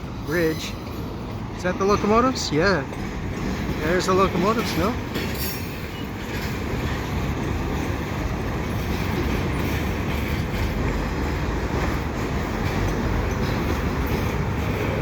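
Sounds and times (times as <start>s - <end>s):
diesel locomotive engines running: 0.0s - 15.0s
rumble of rolling railcars: 0.0s - 15.0s.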